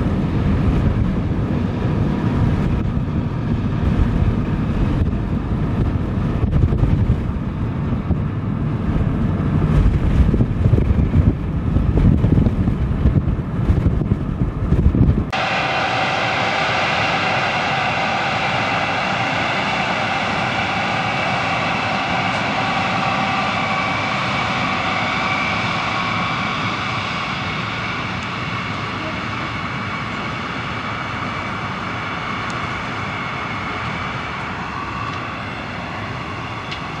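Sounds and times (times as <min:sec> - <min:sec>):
locomotive whine: 0:00.0 - 0:37.0
wheels rumbling on rail: 0:00.0 - 0:37.0.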